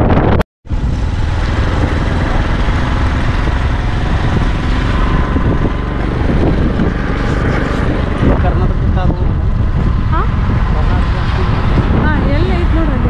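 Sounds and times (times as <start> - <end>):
wind noise on microphone: 0.0 - 13.0
motorbike engine running: 0.7 - 13.0.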